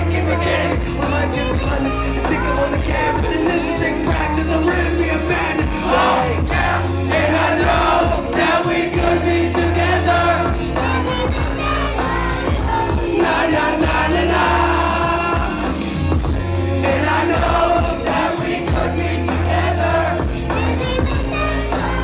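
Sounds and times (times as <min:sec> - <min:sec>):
heavy bass beat: 0:00.0 - 0:22.0
live concert music: 0:00.0 - 0:22.0
many voices singing: 0:00.0 - 0:22.0.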